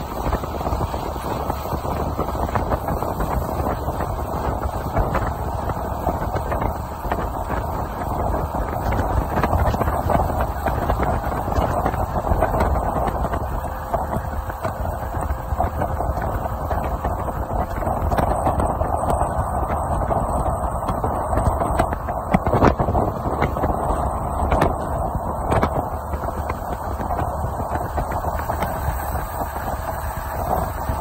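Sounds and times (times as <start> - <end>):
motorboat engine running: 0.0 - 31.0
wind rushing: 0.0 - 31.0.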